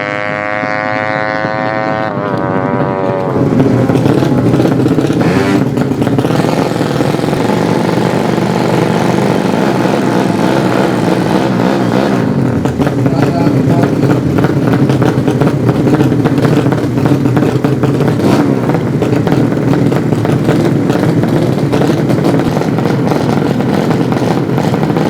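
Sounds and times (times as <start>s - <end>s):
high motorcycle engine note: 0.0s - 25.0s
rough loud motorcycle engine: 0.0s - 25.0s.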